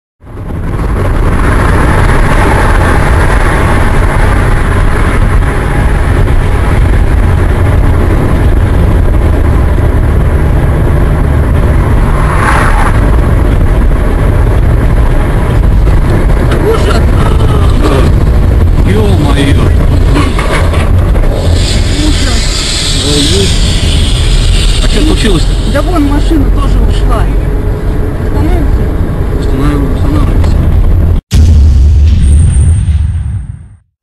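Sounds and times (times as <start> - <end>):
engine and road rumble: 0.2 - 33.9.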